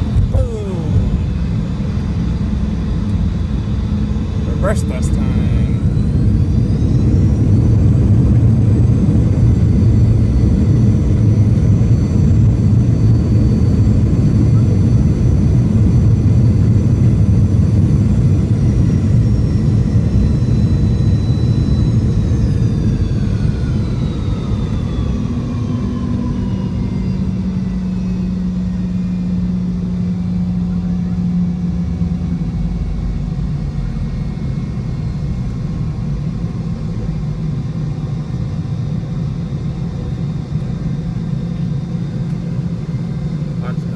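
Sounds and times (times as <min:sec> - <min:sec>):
jet engines in reverse thrust: 0:00.0 - 0:43.9.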